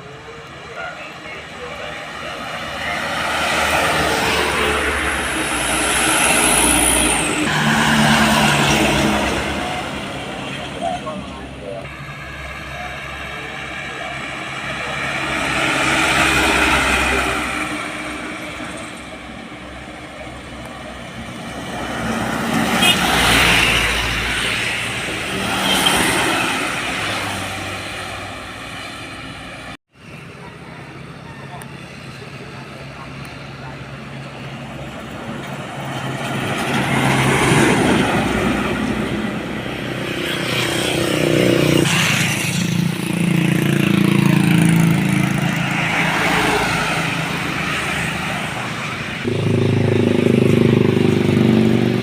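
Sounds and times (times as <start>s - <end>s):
diesel truck passing: 0.0s - 52.0s.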